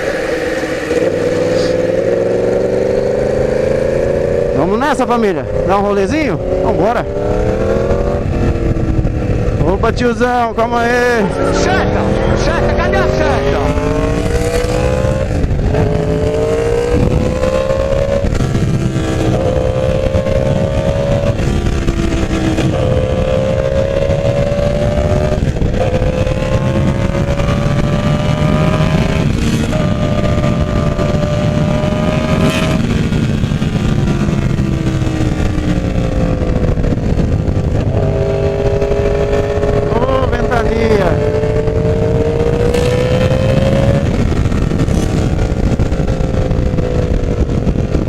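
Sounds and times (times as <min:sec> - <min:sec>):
motorcycle engine accelerating: 0:00.0 - 0:48.0
wind rush: 0:00.0 - 0:48.0.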